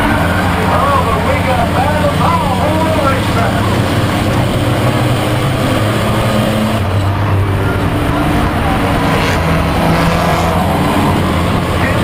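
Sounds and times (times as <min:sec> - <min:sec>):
race car engine running: 0:00.0 - 0:12.0
road and wind noise: 0:00.0 - 0:12.0.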